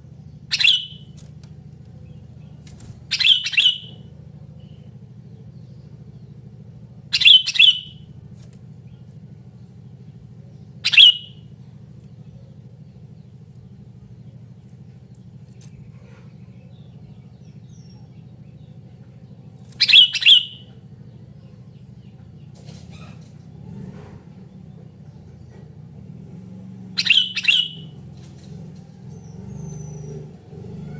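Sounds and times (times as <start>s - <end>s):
steady low hum: 0.0s - 30.9s
bird chirping calls: 0.2s - 6.4s, 7.0s - 8.1s, 10.4s - 23.8s, 26.6s - 30.9s.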